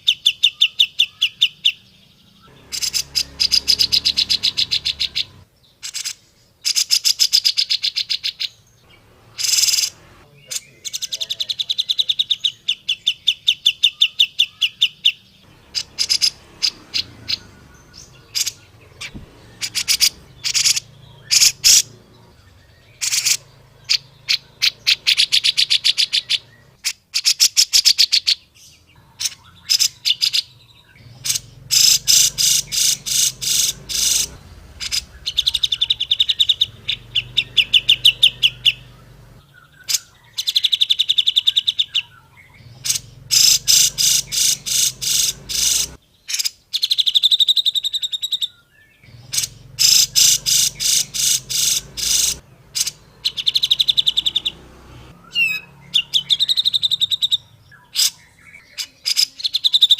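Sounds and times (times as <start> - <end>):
bird chattering calls: 2.4 - 59.9.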